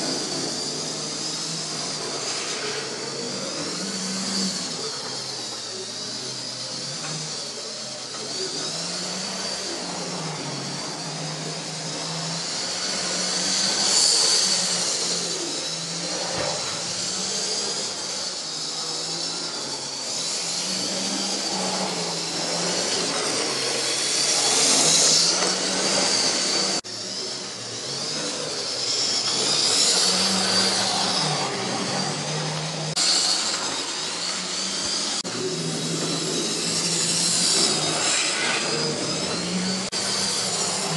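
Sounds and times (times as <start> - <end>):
model train motors whining: 0.0 - 40.9.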